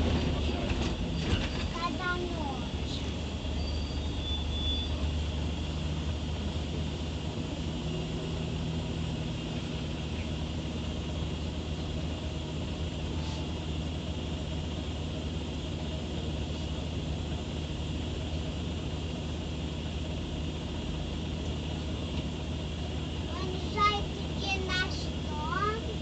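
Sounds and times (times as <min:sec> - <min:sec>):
bus engine humming: 0:00.0 - 0:26.0.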